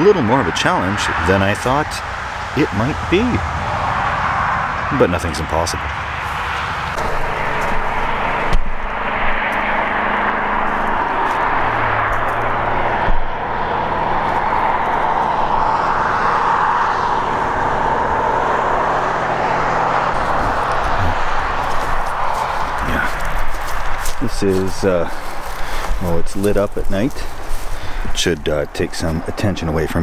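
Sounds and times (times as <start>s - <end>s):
highway traffic rushing: 0.0s - 30.0s.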